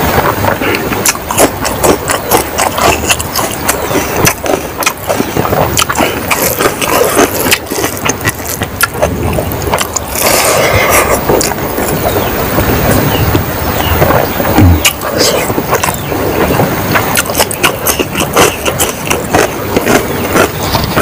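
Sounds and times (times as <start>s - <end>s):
wet chewing and lip smacks: 0.0s - 13.1s, 13.8s - 21.0s.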